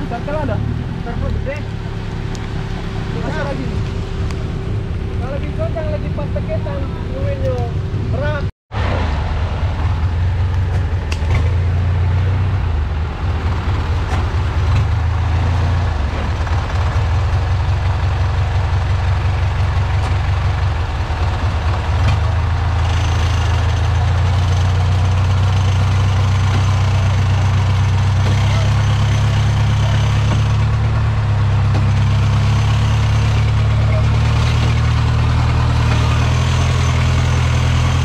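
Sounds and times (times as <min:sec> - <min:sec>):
off-road vehicle engine running: 0:00.0 - 0:38.0.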